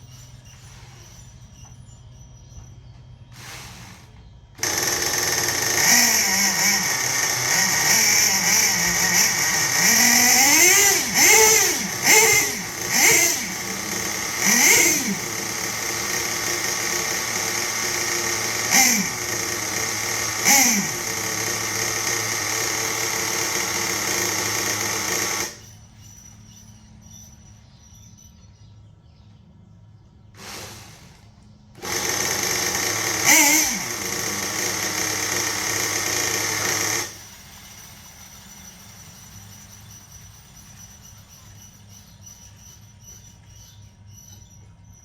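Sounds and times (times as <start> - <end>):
small nitro engine buzzing: 3.4 - 27.0, 30.4 - 44.6.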